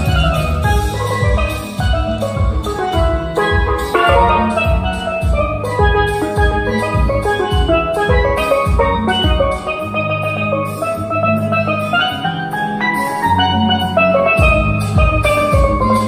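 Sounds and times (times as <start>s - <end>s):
drum and bass backing beat: 0.0s - 16.0s
steelpan played with mallets: 0.0s - 16.0s.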